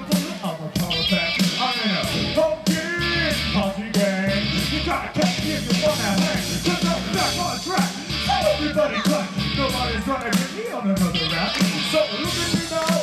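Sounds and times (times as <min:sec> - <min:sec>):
song with singing over a beat: 0:00.0 - 0:13.0.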